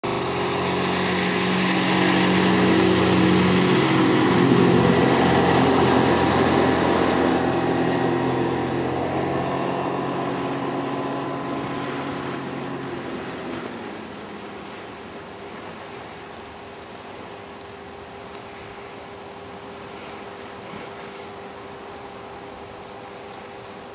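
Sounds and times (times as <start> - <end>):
outboard motor boat passing: 0.0 - 23.9
water rushing hiss: 0.0 - 23.9.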